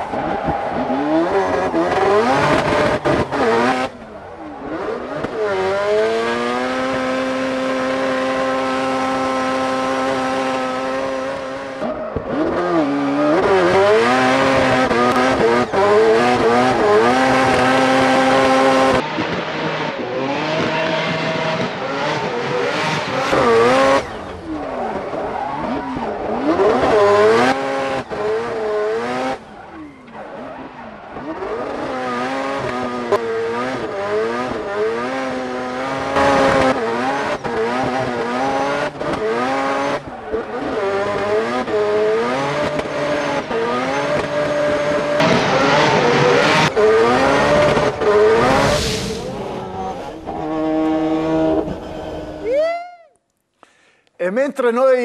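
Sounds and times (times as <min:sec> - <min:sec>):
car engine revving: 0:00.0 - 0:52.6.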